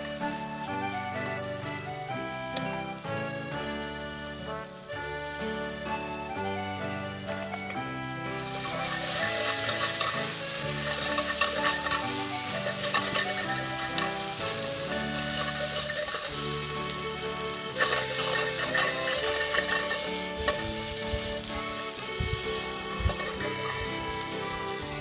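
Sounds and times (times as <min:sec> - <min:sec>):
background music: 0:00.0 - 0:25.0
food sizzling in a pan: 0:00.0 - 0:25.0.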